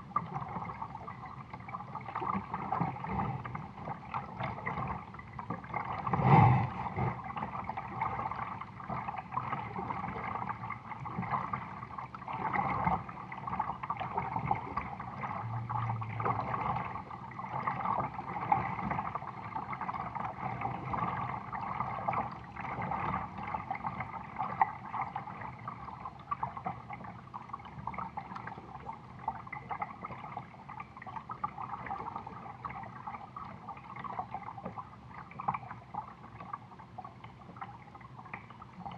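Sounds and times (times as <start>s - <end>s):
water lapping against kayak hull: 0.0s - 38.9s.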